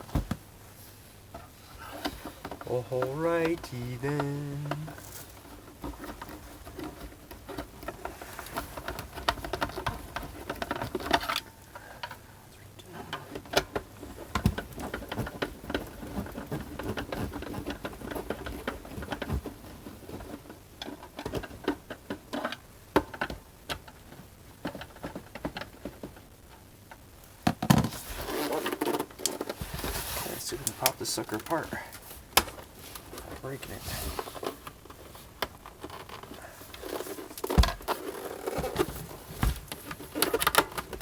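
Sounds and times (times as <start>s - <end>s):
small clicks taps and scrapes: 1.3s - 12.2s, 12.8s - 27.1s, 27.7s - 41.0s.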